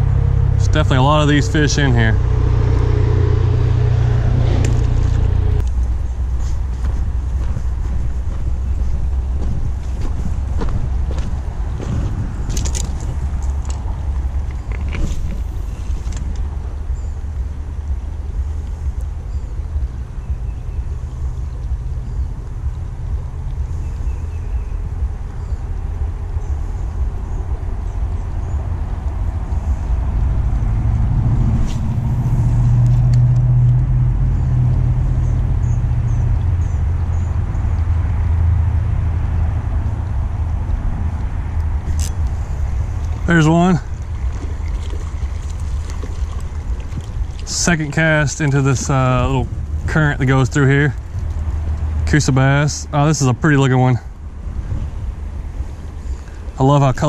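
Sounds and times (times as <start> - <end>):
flowing river: 0.0 - 57.0
wind rumbling on microphone: 0.0 - 57.0.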